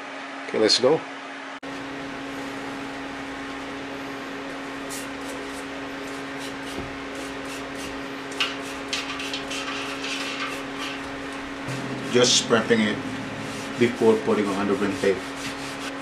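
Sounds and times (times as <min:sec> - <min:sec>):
steady low hum: 0:01.1 - 0:16.0.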